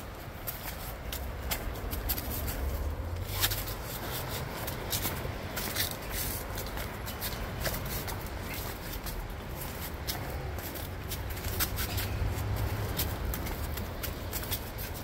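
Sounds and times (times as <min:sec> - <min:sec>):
footsteps scuffing on concrete steps: 0:00.0 - 0:15.0
steady low rumble: 0:00.0 - 0:15.0.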